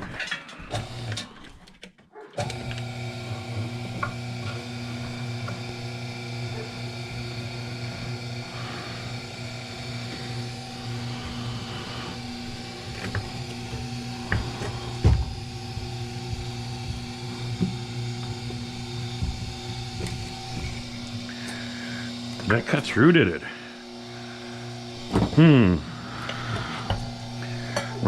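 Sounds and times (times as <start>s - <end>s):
wire-stripping machine motor humming: 0.0s - 1.4s, 2.4s - 28.0s.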